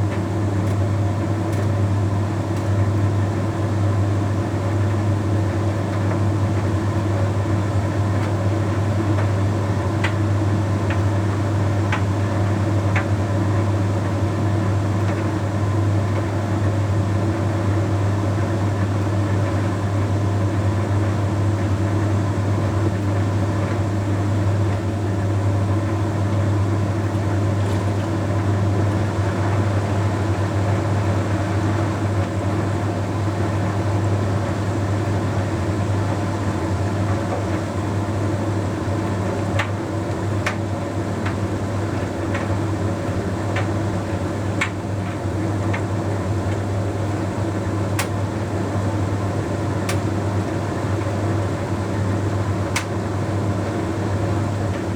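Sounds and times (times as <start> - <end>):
tumble dryer humming: 0.0 - 54.9.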